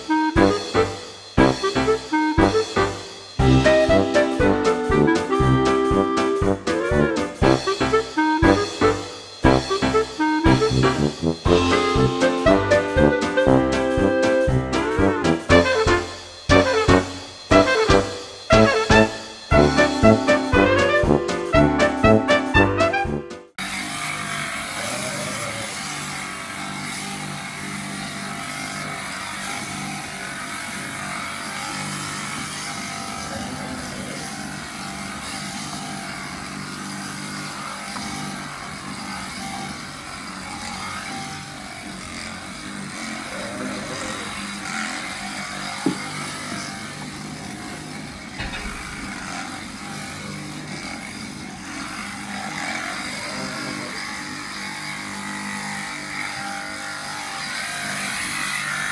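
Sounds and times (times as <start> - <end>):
electric shearing handpiece running: 0.0 - 58.9.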